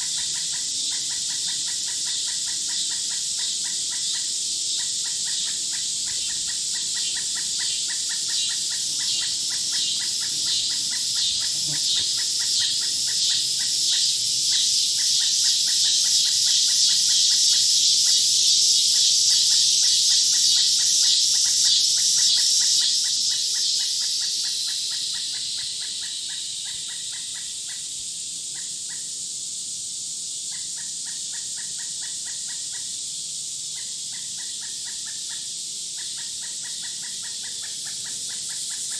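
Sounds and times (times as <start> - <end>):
high pulsing insect drone: 0.0 - 38.9
insects chirping rapidly: 0.0 - 38.9.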